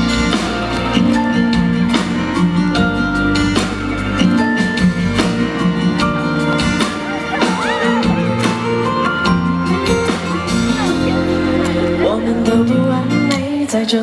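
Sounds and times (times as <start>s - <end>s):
steady beat: 0.0s - 12.4s
guitar: 0.0s - 14.0s
live band playing pop ballad: 0.0s - 14.0s.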